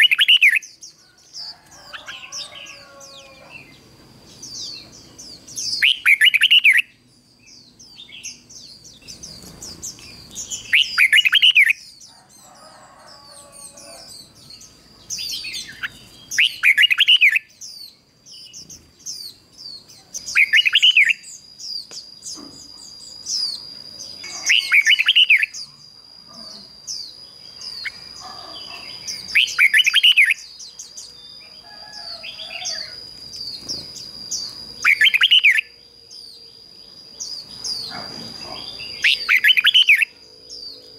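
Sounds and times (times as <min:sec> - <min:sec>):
bulbul singing: 0:00.0 - 0:40.9
faint high chirps: 0:00.0 - 0:40.9
thin steady high tone: 0:00.0 - 0:40.9.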